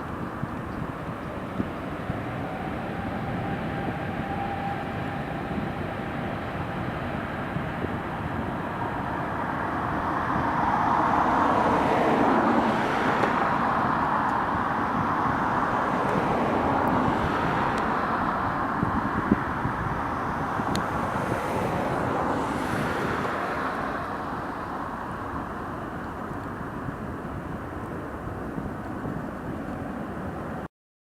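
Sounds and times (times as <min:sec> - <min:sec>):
jet airliner flying past: 0:00.0 - 0:30.6
road traffic: 0:00.0 - 0:30.7
wind: 0:00.0 - 0:30.7.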